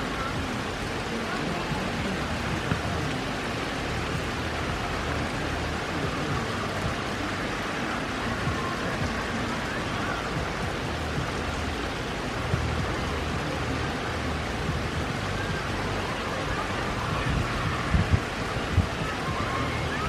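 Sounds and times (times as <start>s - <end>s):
rain on concrete and lawn: 0.0s - 20.0s.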